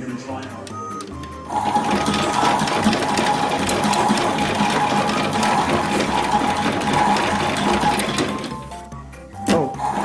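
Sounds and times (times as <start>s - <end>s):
toy washing machine motor whine: 0.0s - 8.9s, 9.5s - 10.0s.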